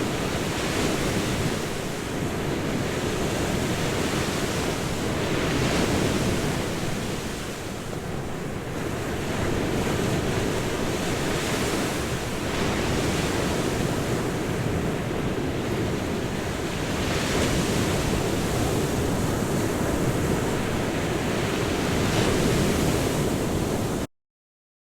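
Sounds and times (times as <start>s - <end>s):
ocean waves breaking on shore: 0.0s - 24.1s.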